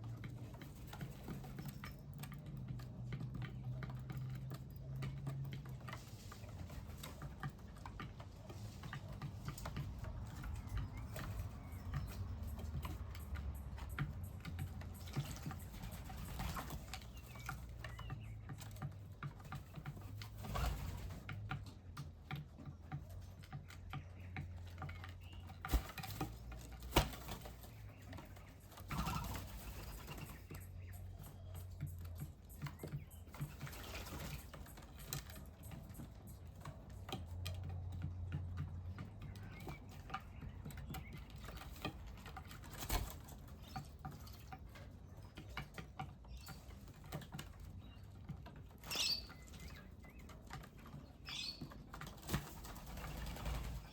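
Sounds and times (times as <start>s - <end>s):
birds pecking at food: 0.0s - 53.9s.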